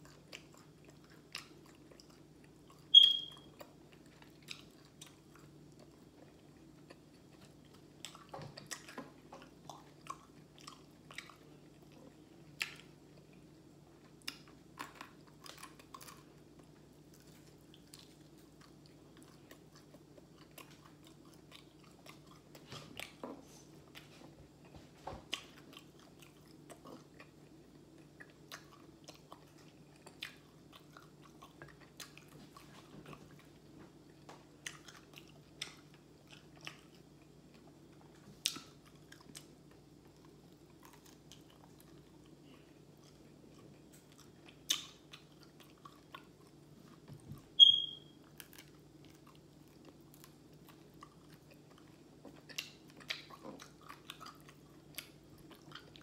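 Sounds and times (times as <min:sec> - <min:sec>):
chewing crispy fried chicken: 0:00.0 - 0:56.0
faint low hum: 0:00.0 - 0:56.0.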